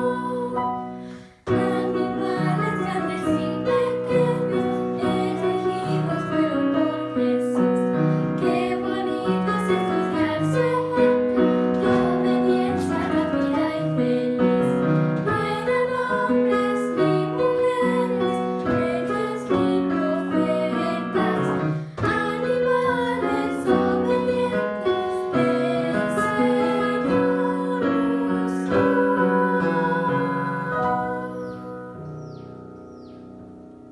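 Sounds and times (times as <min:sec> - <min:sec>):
children's song singing: 0:00.0 - 0:32.0
piano accompaniment: 0:00.0 - 0:33.9.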